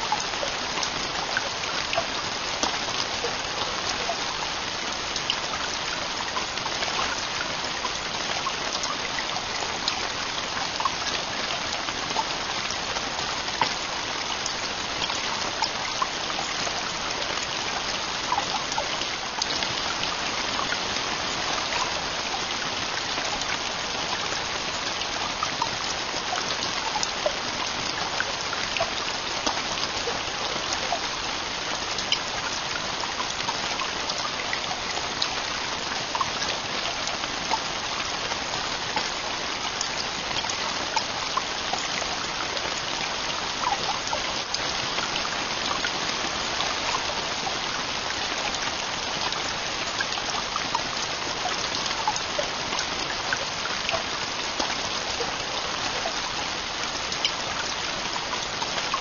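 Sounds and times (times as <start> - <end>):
heavy rain on tent roof: 0.0 - 59.0.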